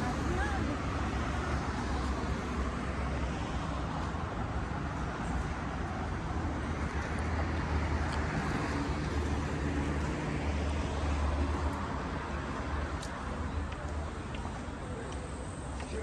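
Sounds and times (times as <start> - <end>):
rumble of passing cars: 0.0 - 16.0.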